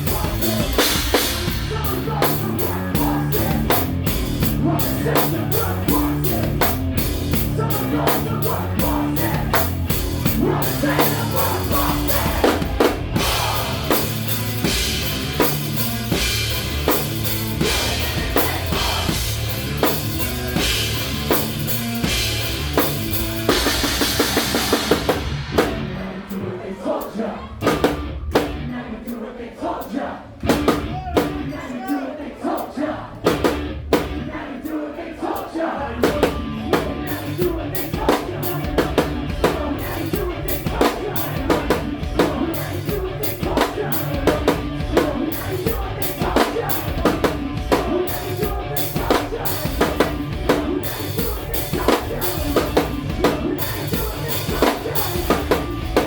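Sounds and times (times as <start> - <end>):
live rock band playing: 0.0 - 28.7, 30.4 - 31.7, 33.2 - 34.5, 36.0 - 56.0
rapid drum strokes: 0.0 - 28.8, 35.2 - 56.0.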